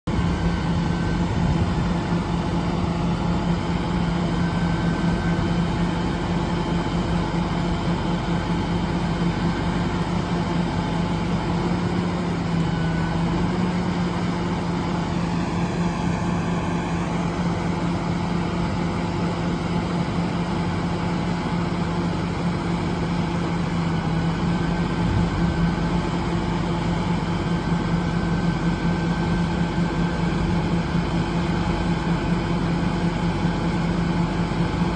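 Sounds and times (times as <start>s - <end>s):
truck diesel engine running: 0.0s - 34.9s.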